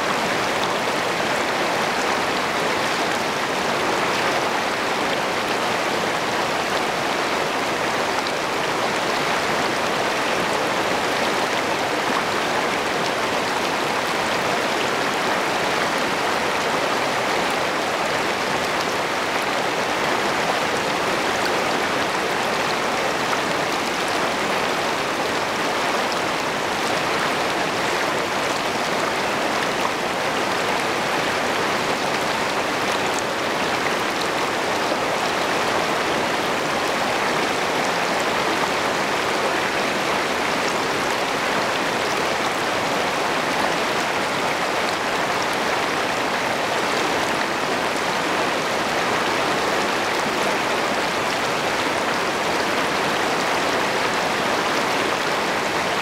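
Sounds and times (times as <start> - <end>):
river rapids rushing over rocks: 0.0 - 56.0.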